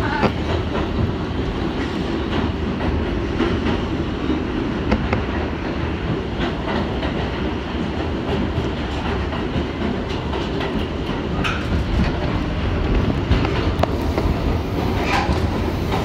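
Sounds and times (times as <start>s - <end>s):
subway train rumbling in tunnel: 0.0s - 16.0s
wheels clicking over rails: 0.0s - 16.0s.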